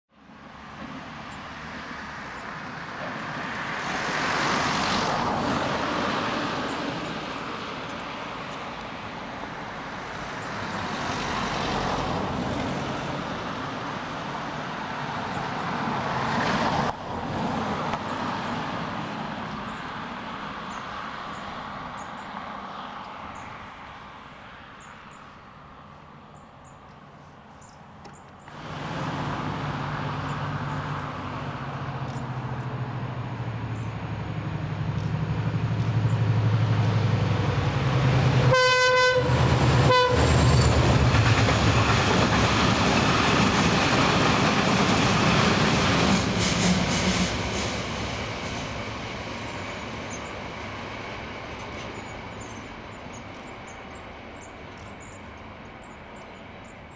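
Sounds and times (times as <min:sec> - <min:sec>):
diesel locomotive drone: 0:00.1 - 0:56.9
road vehicles passing: 0:00.1 - 0:56.9.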